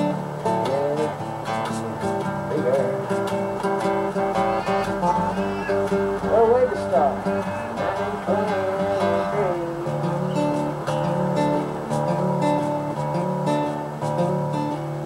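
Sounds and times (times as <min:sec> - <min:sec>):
fingerstyle acoustic guitar blues: 0:00.0 - 0:15.0.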